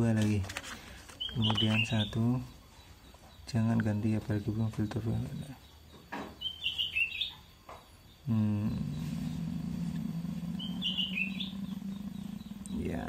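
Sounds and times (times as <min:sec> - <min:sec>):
steady low hum: 0:00.0 - 0:13.0
small bird chirping: 0:01.1 - 0:13.0.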